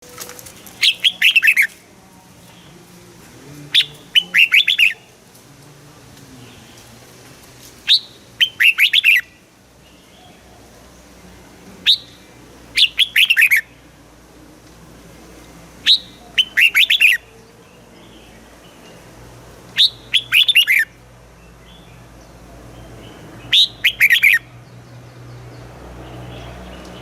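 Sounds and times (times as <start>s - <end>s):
bulbul singing bright phrases: 0.4s - 5.4s, 7.8s - 27.0s.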